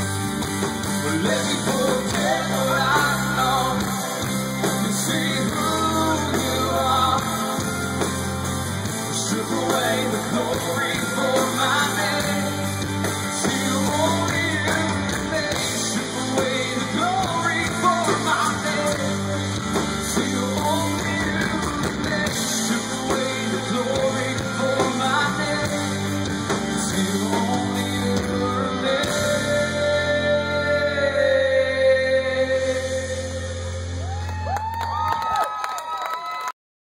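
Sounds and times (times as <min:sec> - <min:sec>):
rock band playing live: 0:00.0 - 0:35.0
person singing: 0:01.0 - 0:08.2, 0:09.0 - 0:34.0.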